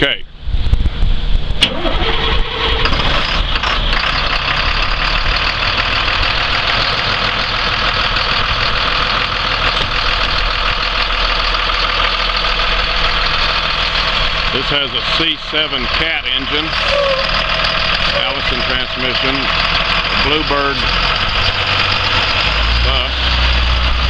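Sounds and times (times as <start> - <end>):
diesel engine idling: 1.2 - 24.0.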